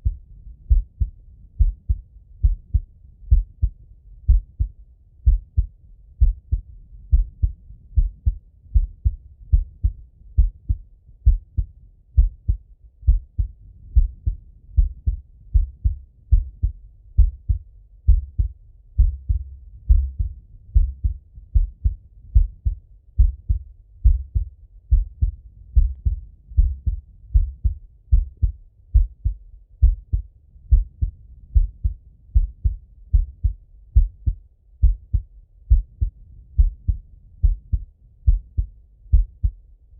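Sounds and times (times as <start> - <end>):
heartbeat through a stethoscope: 0.0 - 39.7.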